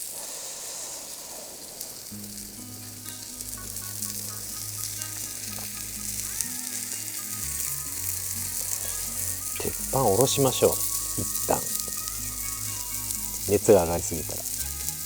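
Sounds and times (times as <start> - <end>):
chicken sizzling on griddle: 0.0 - 15.0.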